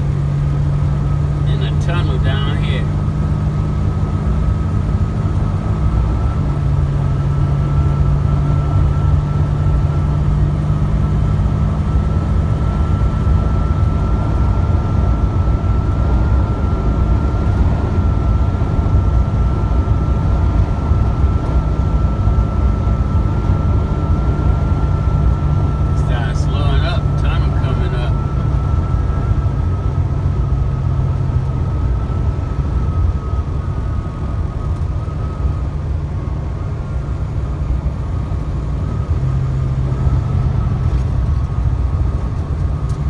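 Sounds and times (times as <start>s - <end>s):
diesel truck engine droning: 0.0s - 43.0s.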